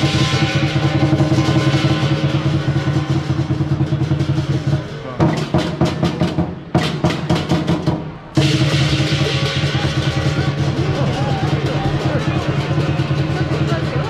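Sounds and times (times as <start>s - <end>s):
percussion band drum roll: 0.0s - 14.0s.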